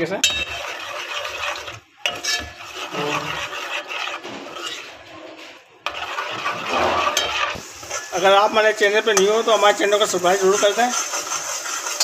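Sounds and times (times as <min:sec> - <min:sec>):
metal ladle scraping a pot: 0:00.2 - 0:12.0.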